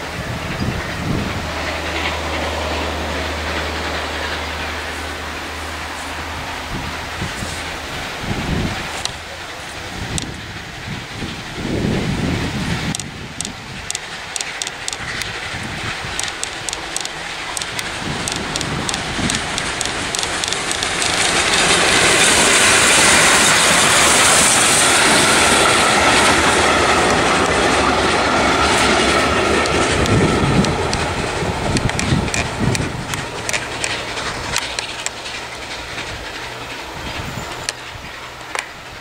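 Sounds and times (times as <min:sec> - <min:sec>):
train rushing past: 0:00.0 - 0:39.0
train wheels clicking over rail joints: 0:00.0 - 0:39.0.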